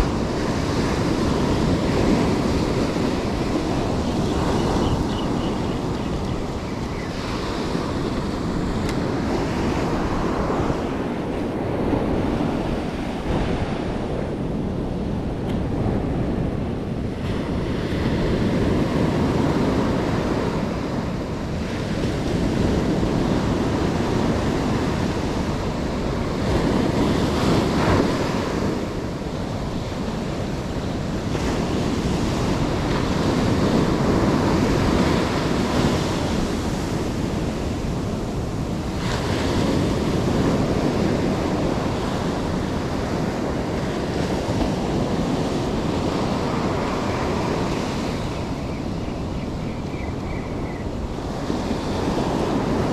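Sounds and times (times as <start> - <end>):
surf breaking on shore: 0.0 - 52.9
wind rumbling on microphone: 0.0 - 52.9.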